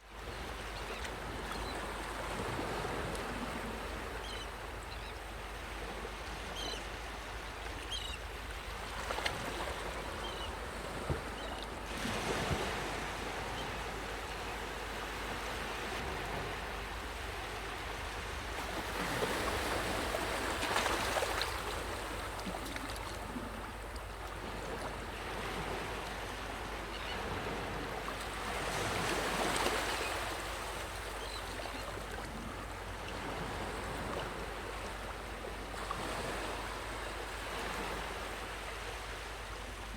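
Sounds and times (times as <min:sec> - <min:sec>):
waves washing onto shore: 0:05.3 - 0:39.9.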